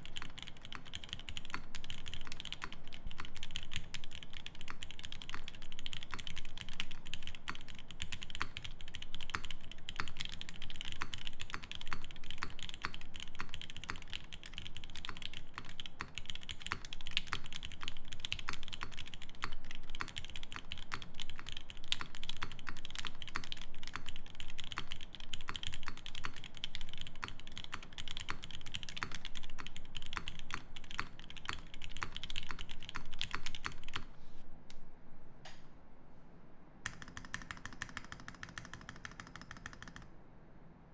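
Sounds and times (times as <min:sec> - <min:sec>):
typing on mechanical keyboard: 0:00.0 - 0:34.1, 0:36.8 - 0:40.1.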